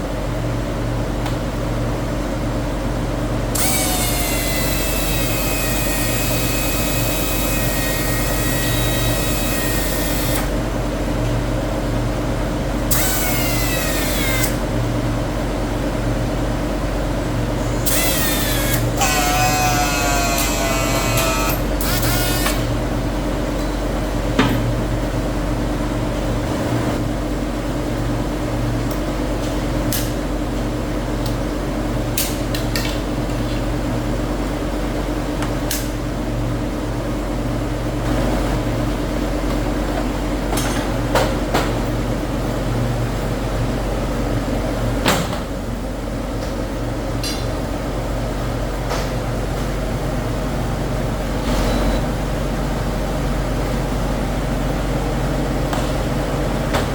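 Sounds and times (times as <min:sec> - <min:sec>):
factory machinery humming: 0:00.0 - 0:56.9.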